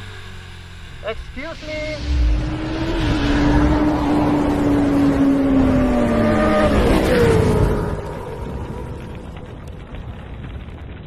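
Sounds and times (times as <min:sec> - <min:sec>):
motor scooter engine droning: 0:00.0 - 0:09.8
wind rushing over microphone: 0:01.4 - 0:11.0.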